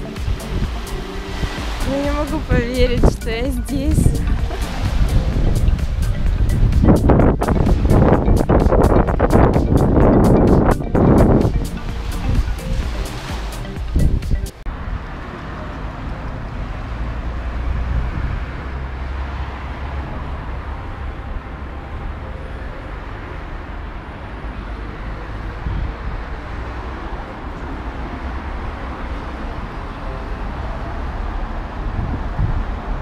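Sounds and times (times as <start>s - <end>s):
deep traffic rumble: 0.0s - 33.0s
passing cars: 0.0s - 33.0s.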